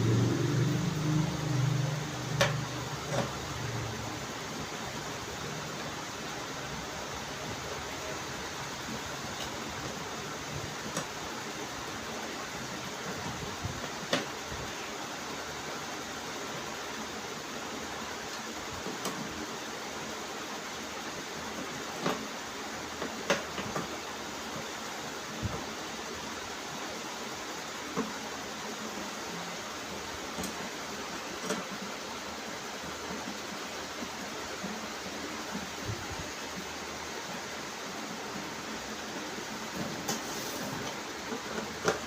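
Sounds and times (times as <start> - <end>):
steady fan-like hiss: 0.0 - 42.0.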